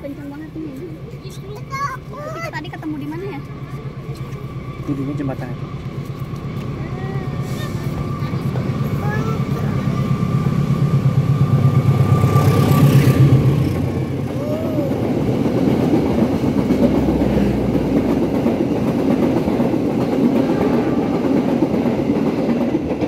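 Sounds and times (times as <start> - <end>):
diesel locomotive engine passing: 0.0 - 23.0
train wheels clattering on rails: 2.6 - 23.0.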